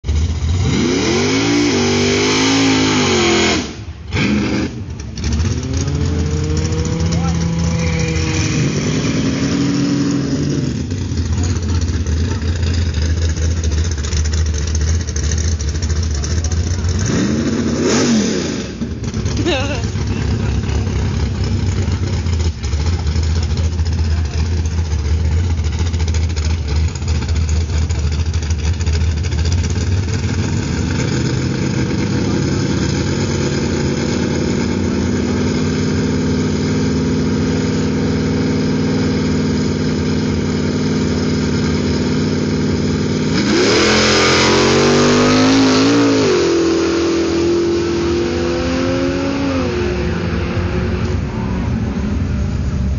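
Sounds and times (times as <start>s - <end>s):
drag racing engines revving: 0.0s - 52.9s.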